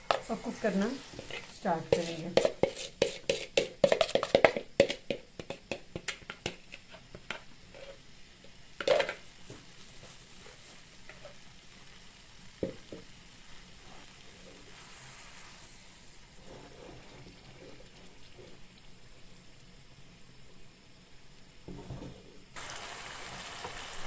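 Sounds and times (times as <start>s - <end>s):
chicken crackling in hot oil: 0.0s - 20.5s, 22.5s - 24.0s.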